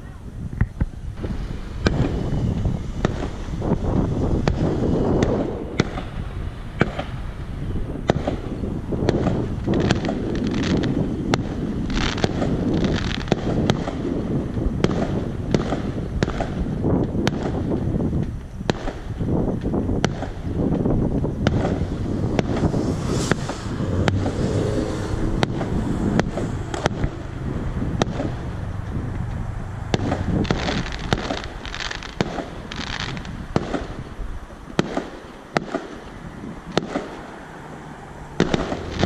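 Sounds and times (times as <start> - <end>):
low rumble: 0.0 - 34.7
distant fireworks bangs: 0.6 - 37.5, 38.4 - 39.0.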